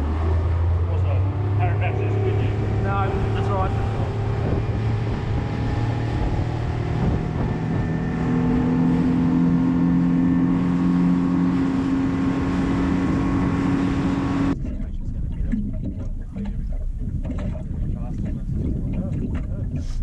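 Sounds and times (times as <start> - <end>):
outboard motor running: 0.0 - 20.0
rushing wind and water: 0.0 - 20.0.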